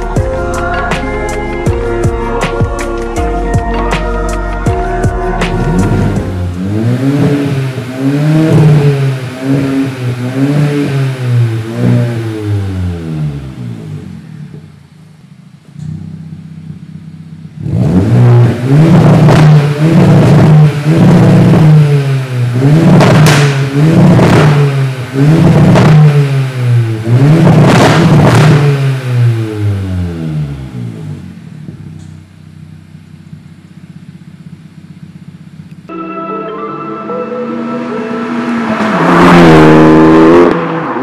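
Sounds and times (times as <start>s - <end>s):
car engine idling and revving: 0.0s - 35.9s, 37.5s - 41.0s.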